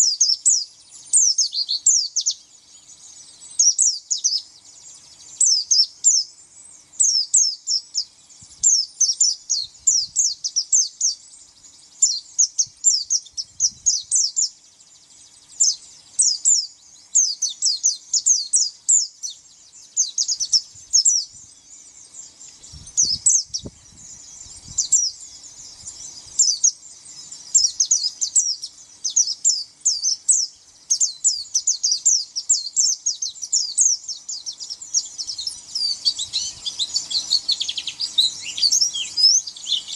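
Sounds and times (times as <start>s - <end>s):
bird chirping phrases: 0.0s - 39.9s.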